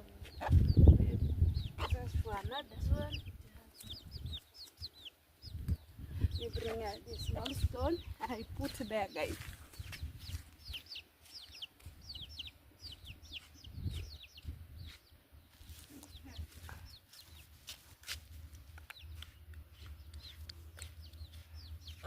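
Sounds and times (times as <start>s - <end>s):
chicks peeping: 0.1s - 22.0s.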